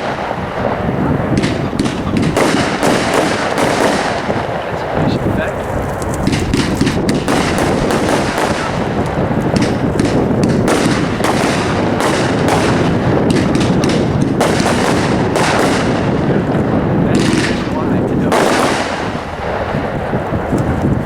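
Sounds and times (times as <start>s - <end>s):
firework cake firing: 0.0s - 21.0s.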